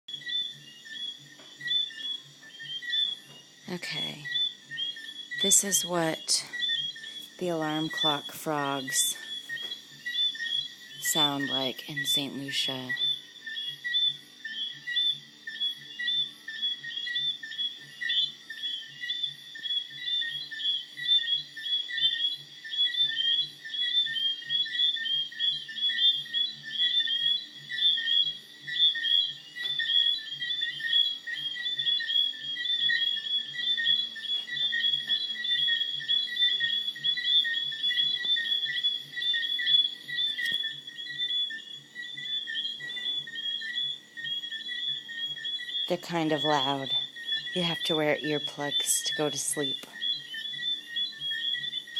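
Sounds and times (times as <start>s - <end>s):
frogs chirping in chorus: 0.1s - 51.9s.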